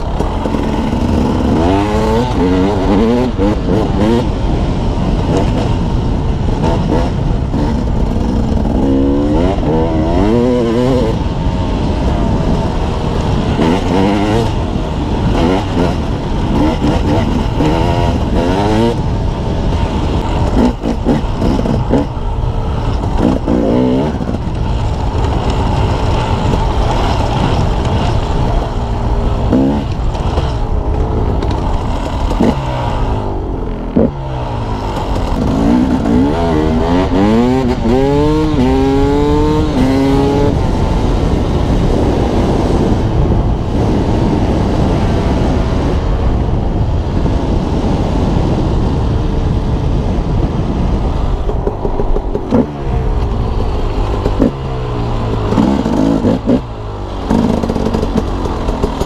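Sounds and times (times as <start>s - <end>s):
dirt bike engine revving: 0.0s - 46.0s, 51.7s - 59.0s
wind rush on microphone: 0.0s - 59.0s.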